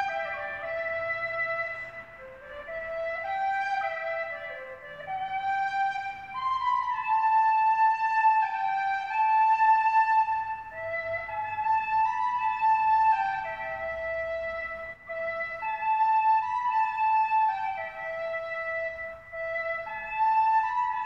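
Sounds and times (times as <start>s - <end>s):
slow flute-like melody: 0.0s - 21.0s.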